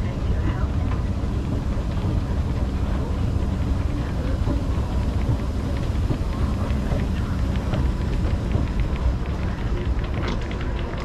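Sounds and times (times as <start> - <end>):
escalator rumbling: 0.0 - 11.0.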